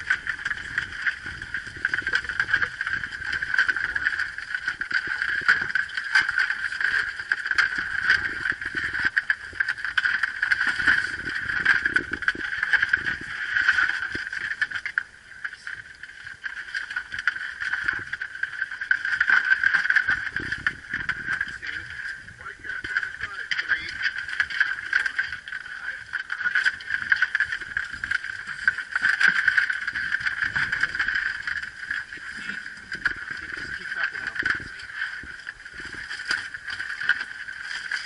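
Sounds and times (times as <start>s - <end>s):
gear rustling: 0.0s - 15.0s, 15.7s - 38.0s.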